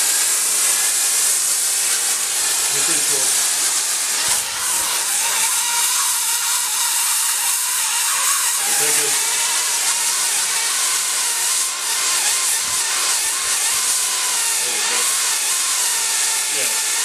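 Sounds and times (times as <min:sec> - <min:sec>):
gas flame hissing: 0:00.0 - 0:17.0.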